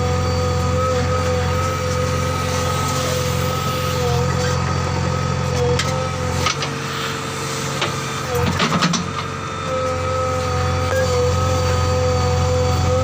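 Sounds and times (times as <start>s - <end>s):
heavy diesel engine running: 0.0s - 13.0s
steady whine: 0.0s - 13.0s.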